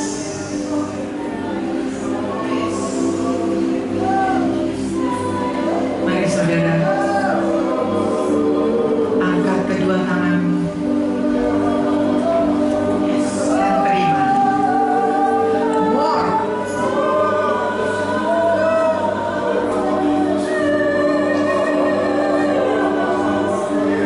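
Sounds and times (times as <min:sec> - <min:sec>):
voices singing slow song: 0:00.0 - 0:24.0.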